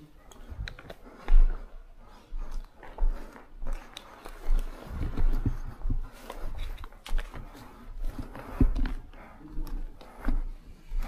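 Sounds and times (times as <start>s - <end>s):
footsteps: 0.0s - 11.0s.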